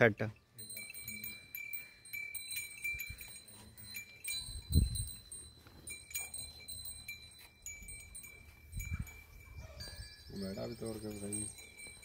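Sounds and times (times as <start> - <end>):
small metal bells tinkling: 0.2 - 12.0.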